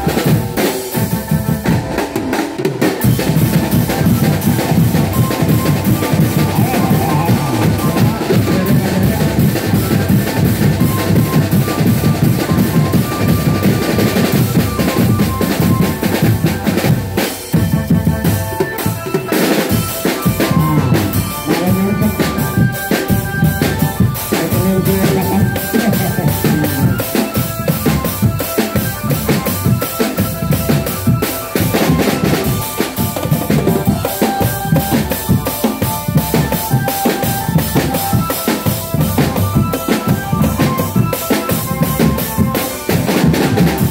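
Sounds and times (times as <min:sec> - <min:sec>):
bass and snare drums beat: 0:00.0 - 0:43.9
melody of held notes: 0:00.1 - 0:43.9.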